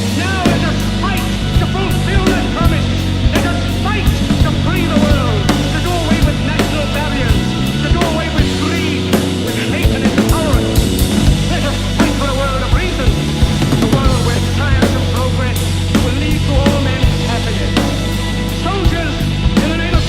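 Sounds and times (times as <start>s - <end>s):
drum kit beat: 0.0s - 20.0s
loud rock music: 0.0s - 20.0s.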